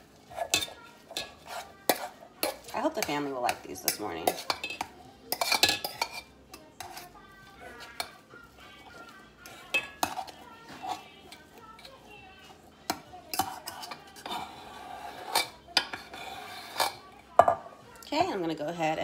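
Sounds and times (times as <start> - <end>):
metal spoon scraping a steel bowl: 0.0 - 17.5.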